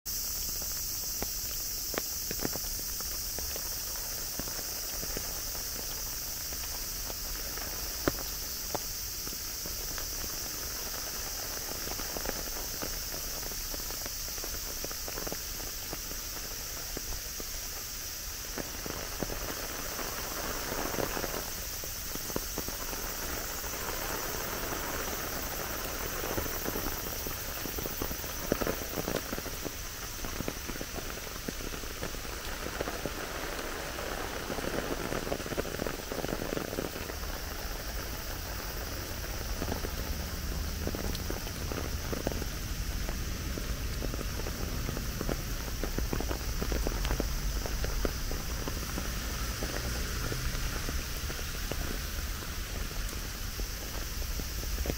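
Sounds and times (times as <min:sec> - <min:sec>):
rain hissing: 0:00.0 - 0:54.9.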